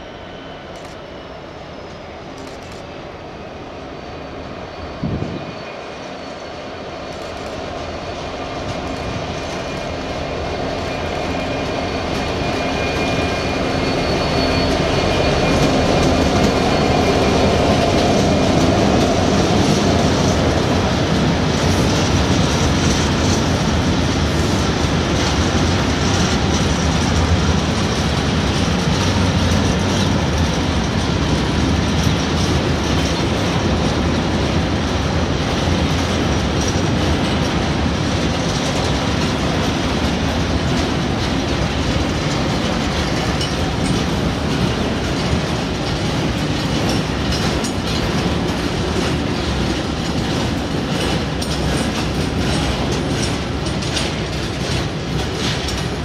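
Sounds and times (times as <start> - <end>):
diesel locomotive engine: 0.0 - 56.0
wagon wheels clattering on rails: 8.2 - 56.0.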